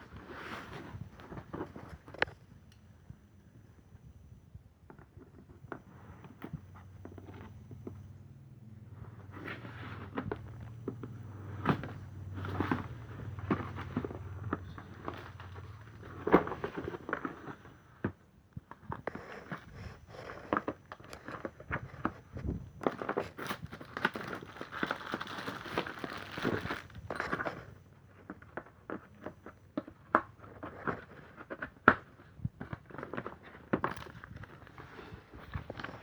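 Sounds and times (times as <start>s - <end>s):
crinkling: 0.0s - 2.8s, 9.0s - 36.0s.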